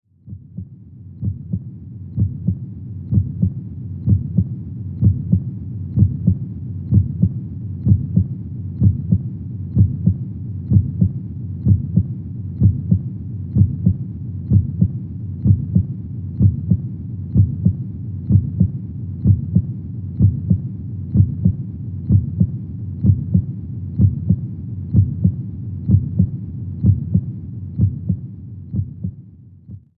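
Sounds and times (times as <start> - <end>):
heartbeat: 0.2 - 30.0
low noise bed: 0.3 - 29.8.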